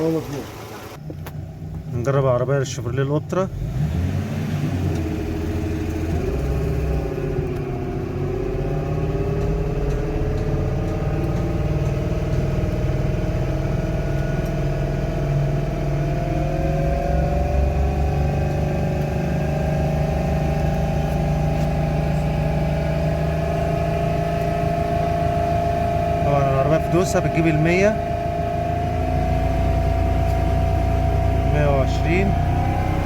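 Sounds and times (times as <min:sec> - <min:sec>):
car engine accelerating: 0:00.0 - 0:02.2, 0:03.0 - 0:33.0.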